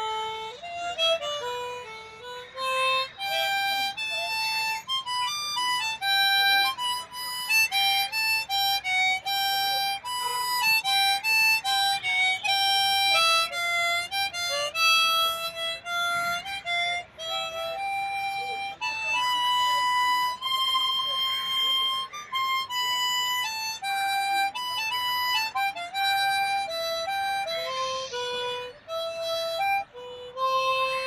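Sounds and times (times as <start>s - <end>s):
harmonica melody: 0.0s - 31.0s.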